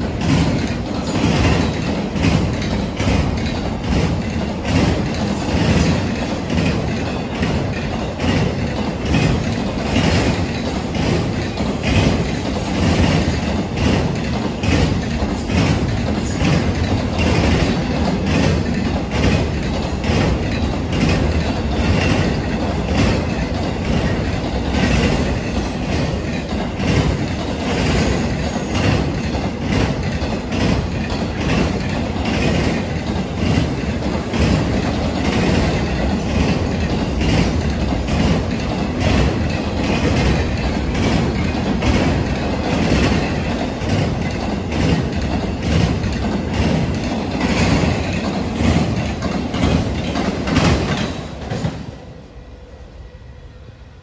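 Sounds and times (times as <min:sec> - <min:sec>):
wheel clacks over rail joints: 0:00.0 - 0:52.0
freight train rumbling past: 0:00.0 - 0:54.0.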